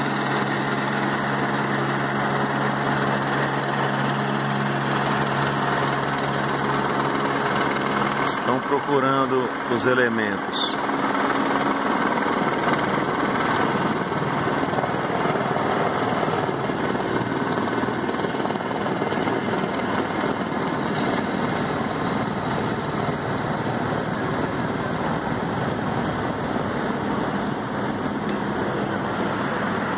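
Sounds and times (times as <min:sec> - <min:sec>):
helicopter rotor and engine: 0:00.0 - 0:29.9.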